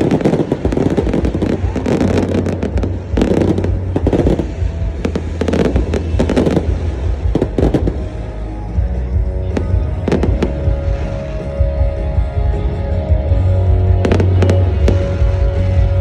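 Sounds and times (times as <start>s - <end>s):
fireworks popping and cracking: 0.0s - 8.4s, 9.4s - 11.9s, 14.0s - 16.0s
steady low rumble: 0.0s - 16.0s.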